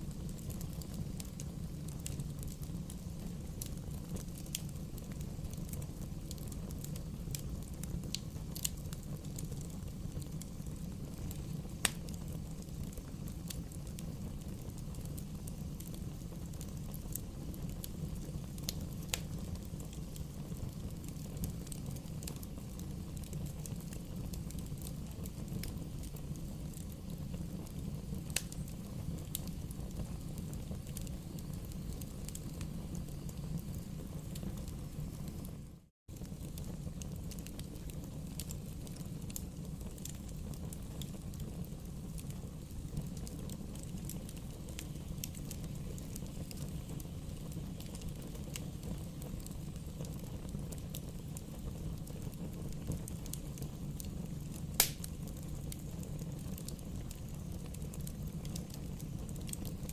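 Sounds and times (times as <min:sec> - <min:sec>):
burning wood crackling and popping: 0:00.0 - 0:59.9
low rumble of flames: 0:00.0 - 0:59.9.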